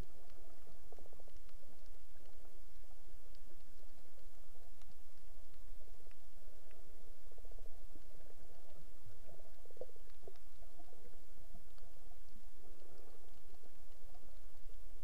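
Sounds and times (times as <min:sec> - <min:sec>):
faint clicks: 0:00.0 - 0:15.0
underwater rumble and gurgle: 0:00.0 - 0:15.0.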